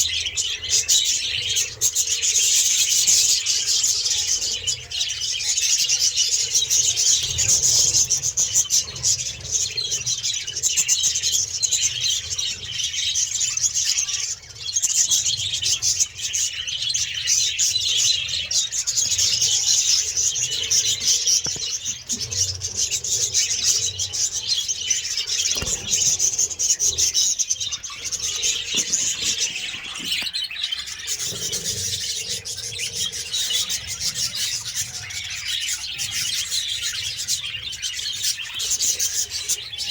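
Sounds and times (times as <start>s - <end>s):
parrots chattering: 0.0s - 39.9s.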